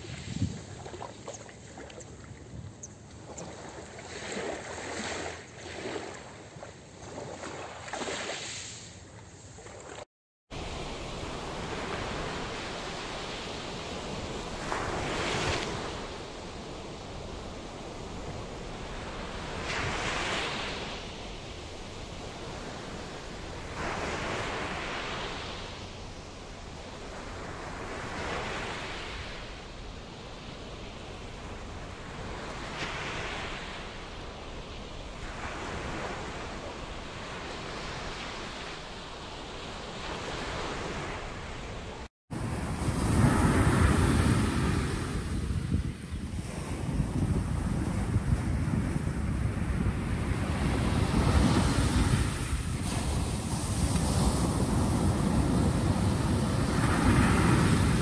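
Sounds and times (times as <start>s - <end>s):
surf washing on sand: 0.0s - 1.9s, 10.5s - 58.0s.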